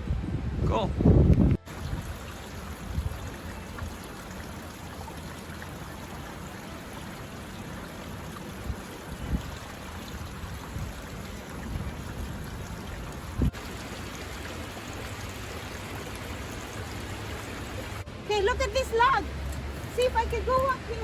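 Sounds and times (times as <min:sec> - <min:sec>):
running water rushing: 0:01.6 - 0:21.0.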